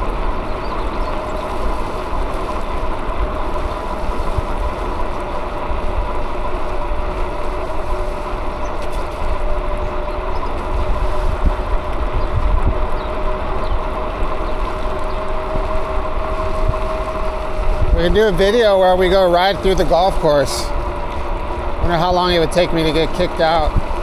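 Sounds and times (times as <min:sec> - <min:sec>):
bicycle road noise: 0:00.0 - 0:24.0
steady hum: 0:00.0 - 0:24.0
wind on microphone: 0:00.0 - 0:24.0.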